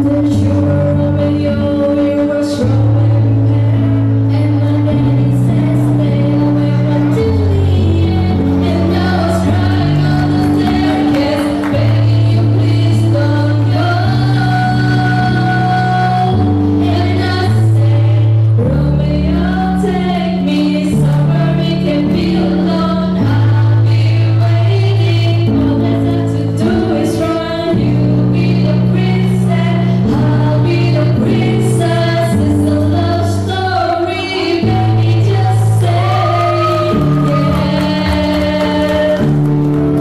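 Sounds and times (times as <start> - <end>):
person singing: 0.0 - 39.6
held bass notes: 0.0 - 40.0.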